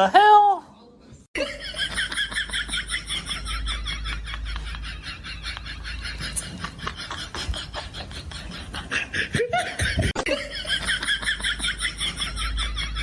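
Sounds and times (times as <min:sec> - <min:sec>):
person laughing: 0:01.4 - 0:13.0.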